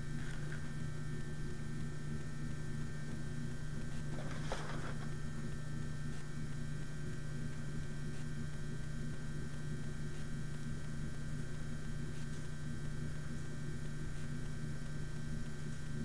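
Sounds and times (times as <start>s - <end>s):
electrical hum: 0.0s - 16.0s
faint high whine: 0.0s - 16.0s.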